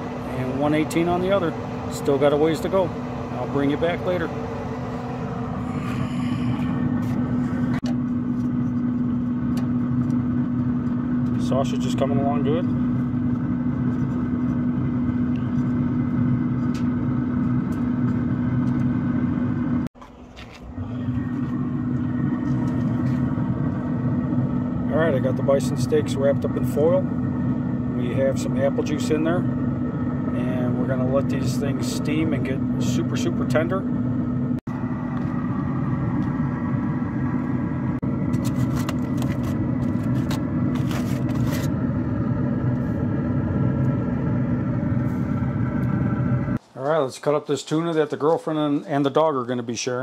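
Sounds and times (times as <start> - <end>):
mechanical hum with steady tone: 0.0 - 50.0.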